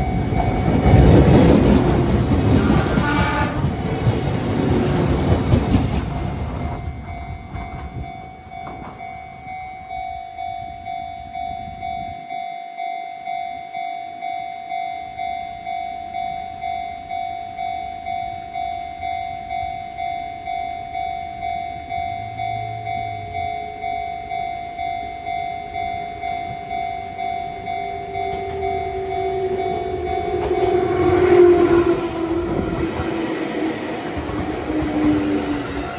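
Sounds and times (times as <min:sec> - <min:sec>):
train passing: 0:00.0 - 0:12.1, 0:15.2 - 0:35.9
level-crossing bell ringing: 0:07.1 - 0:35.9.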